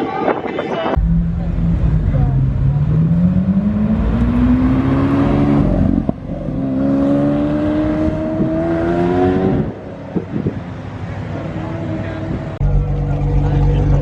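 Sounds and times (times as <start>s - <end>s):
car engine accelerating: 1.0s - 14.0s.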